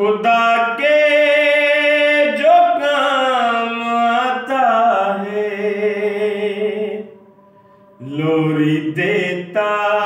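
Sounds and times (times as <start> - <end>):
man singing unaccompanied: 0.0 - 7.2, 8.0 - 10.0.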